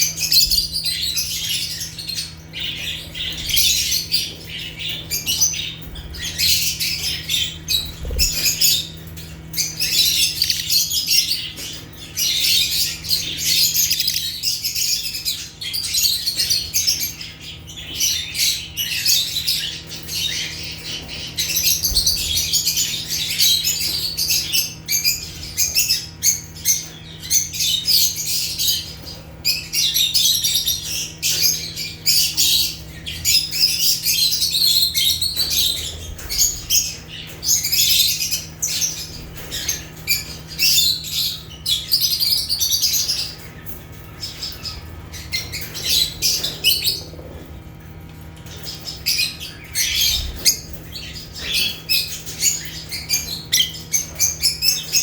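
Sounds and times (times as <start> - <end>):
lovebirds chattering: 0.0 - 55.0
steady low hum: 0.0 - 55.0.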